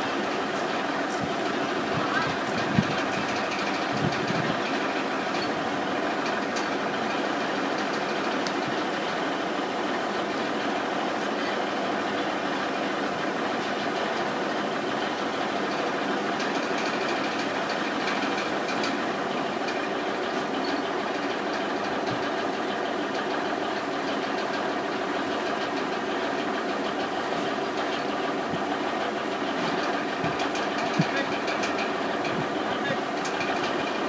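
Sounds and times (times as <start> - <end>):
machine droning: 0.0 - 34.0.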